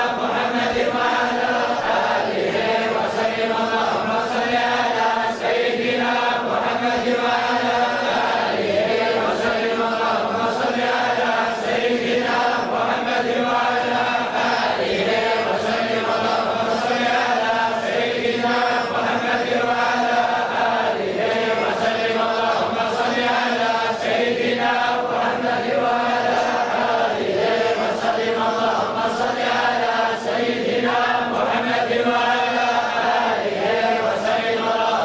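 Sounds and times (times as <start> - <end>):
men chanting in unison: 0.0 - 35.0.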